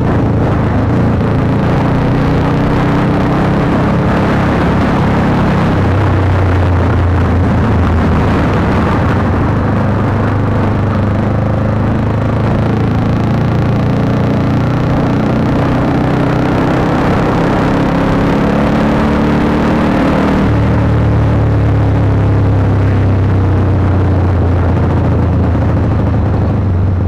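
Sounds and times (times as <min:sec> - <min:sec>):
motorcycle engine revving: 0:00.0 - 0:27.0
wind and road noise: 0:00.0 - 0:27.0.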